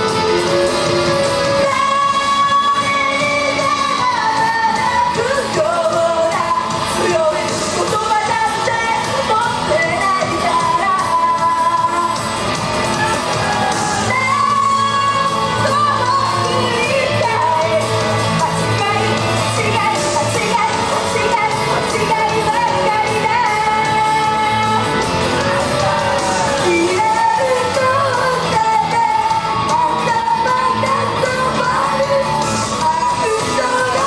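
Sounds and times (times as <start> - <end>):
woman singing into a microphone: 0.0 - 12.6, 13.7 - 34.0
amplified backing music: 0.0 - 34.0.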